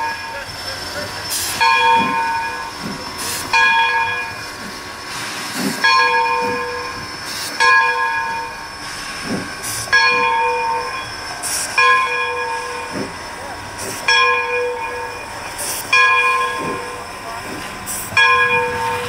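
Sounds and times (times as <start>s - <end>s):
locomotive bell clanging: 0.0s - 4.8s, 5.6s - 19.0s
steam hiss: 0.0s - 14.1s, 15.2s - 19.0s.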